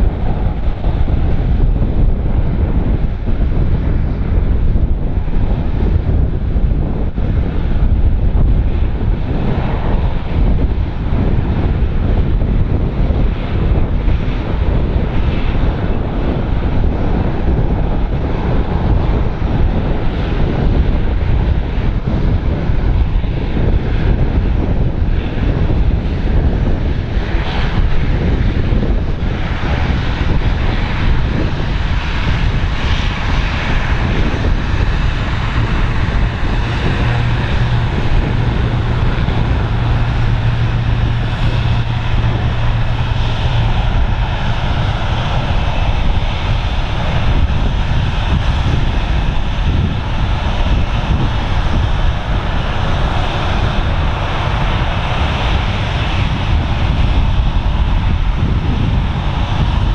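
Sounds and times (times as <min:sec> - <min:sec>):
steady low hum: 0:00.0 - 0:56.6
turboprop engines and propellers: 0:00.0 - 0:59.9
wind on microphone: 0:00.0 - 0:59.9.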